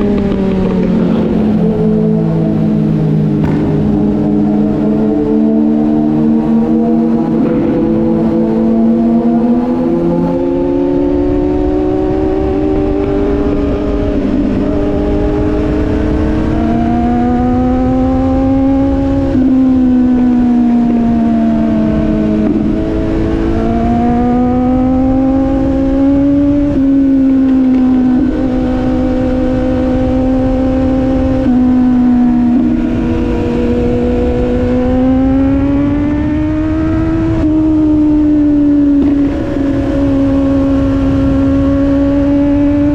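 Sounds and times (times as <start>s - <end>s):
low wind rumble: 0.0s - 42.9s
motorcycle engine revving: 0.0s - 42.9s.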